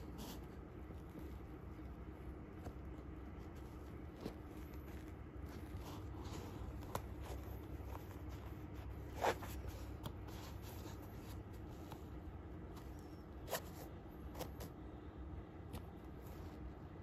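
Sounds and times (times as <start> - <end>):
hands rustling and scraping shoe: 0.0 - 14.9
faint low hum: 0.0 - 17.0.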